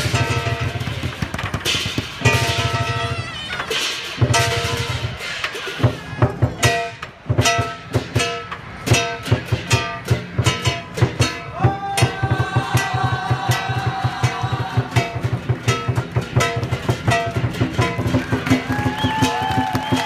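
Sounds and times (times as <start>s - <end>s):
fast drum beat: 3.8s - 20.0s.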